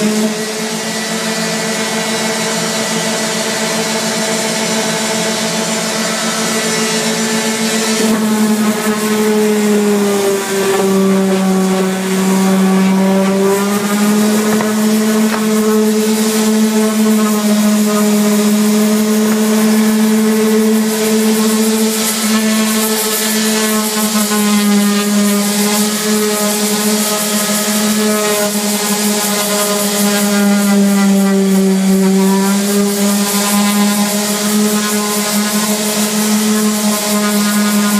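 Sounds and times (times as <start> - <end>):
electric sander motor hum: 0.0 - 37.9.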